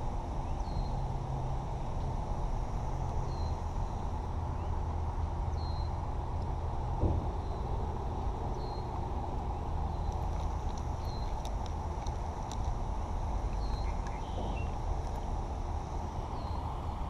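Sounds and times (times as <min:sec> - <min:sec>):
distant expressway traffic rumble: 0:00.0 - 0:17.0.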